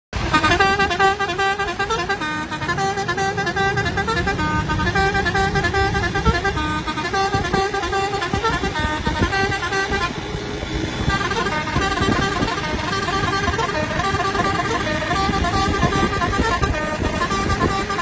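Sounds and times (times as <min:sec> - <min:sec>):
engine and road rumble: 0:00.1 - 0:18.0
bus musical horn playing: 0:00.2 - 0:18.0.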